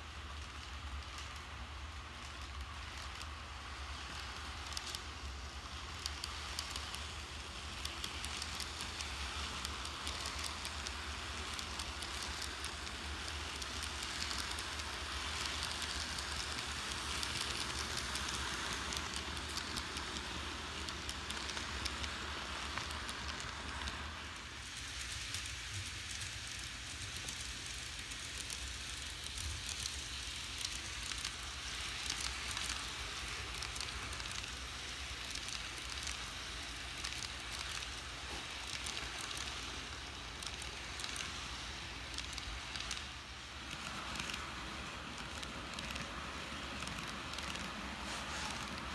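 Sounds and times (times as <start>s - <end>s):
model train wheels rattling: 0.0s - 48.9s.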